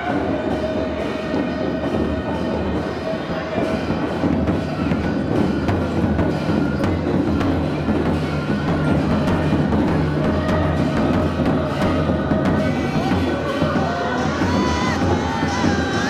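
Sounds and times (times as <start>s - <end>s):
large drum beaten with sticks: 0.0s - 16.0s.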